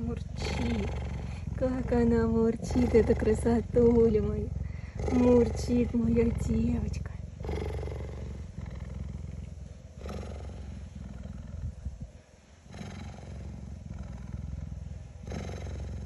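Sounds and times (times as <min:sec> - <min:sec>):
cheetah purring: 0:00.0 - 0:16.0.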